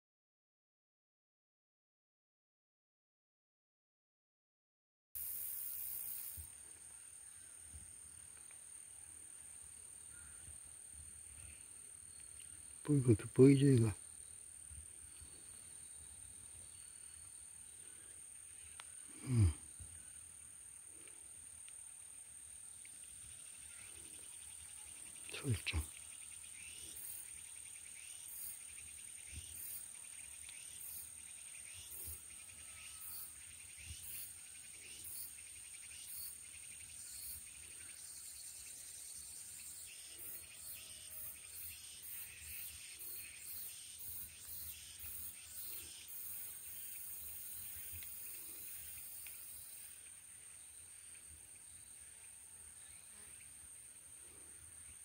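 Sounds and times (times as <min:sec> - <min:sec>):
high-pitched insect trill: 0:05.2 - 0:53.9
cricket chirps: 0:05.2 - 0:55.0.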